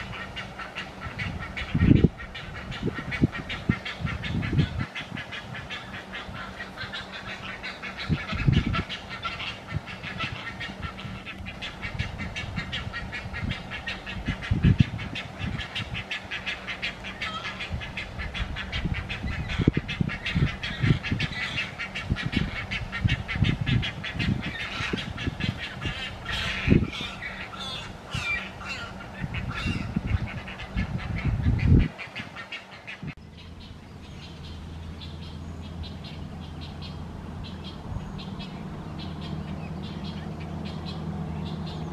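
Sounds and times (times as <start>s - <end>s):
chicks begging calls chatter: 0.0s - 41.9s
harsh bird calls: 0.0s - 41.9s.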